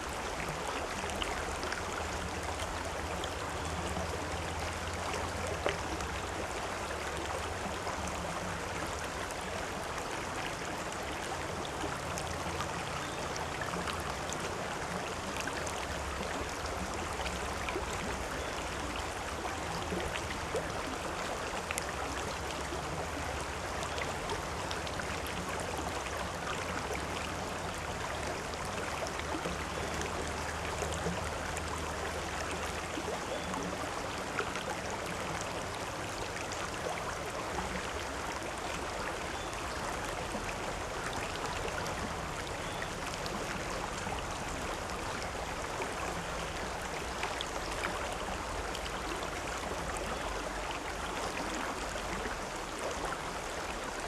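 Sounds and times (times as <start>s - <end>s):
river flowing: 0.0s - 54.0s
small water splashes: 0.0s - 54.0s.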